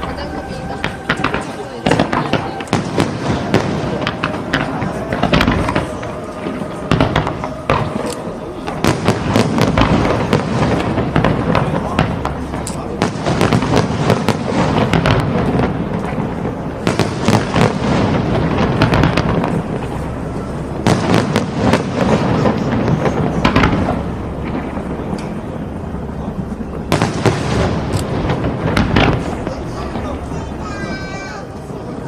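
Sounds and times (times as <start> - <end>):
fireworks bangs: 0.0 - 32.0
fireworks crackling and popping: 0.0 - 32.0.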